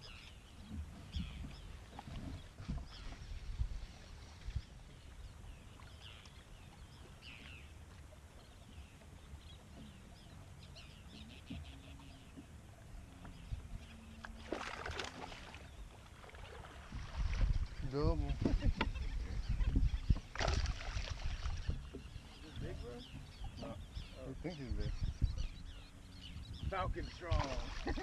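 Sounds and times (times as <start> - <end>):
water lapping against a boat: 0.0 - 28.0
wind: 0.0 - 28.0.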